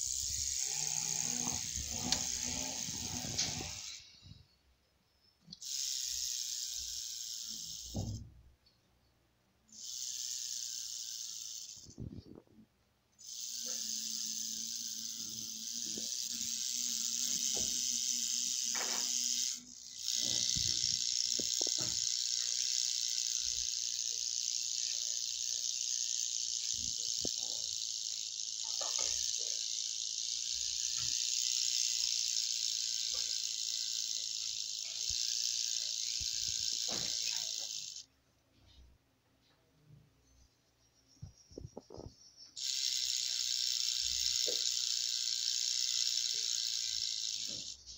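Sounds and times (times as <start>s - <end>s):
rattlesnake rattling: 0.0s - 4.4s, 5.6s - 8.2s, 9.7s - 12.4s, 13.2s - 38.1s, 40.8s - 47.9s.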